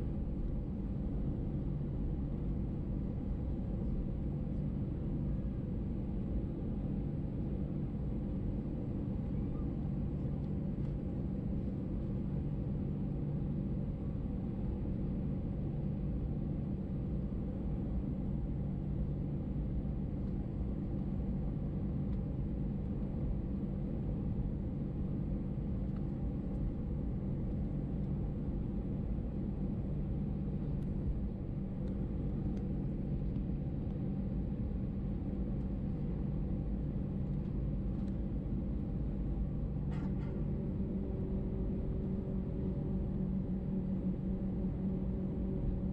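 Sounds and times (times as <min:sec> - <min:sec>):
idling engines and cabin air hum: 0:00.0 - 0:45.9.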